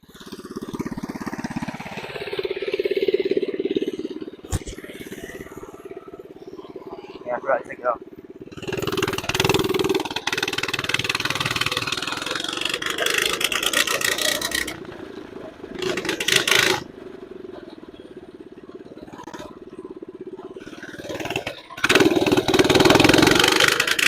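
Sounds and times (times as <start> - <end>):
small engine revving and idling: 0.0 - 24.0.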